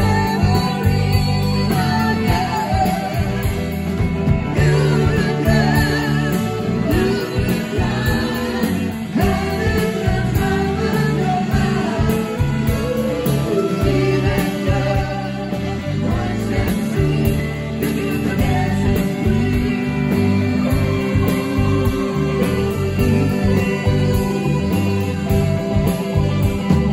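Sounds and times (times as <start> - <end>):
drums beating on cymbals: 0.0 - 26.9
electric guitars: 0.0 - 26.9
person singing: 0.0 - 26.9.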